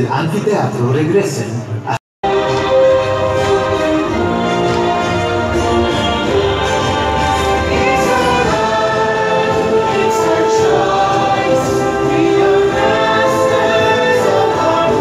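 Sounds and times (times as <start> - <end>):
choir singing held notes over music: 2.3 - 15.0.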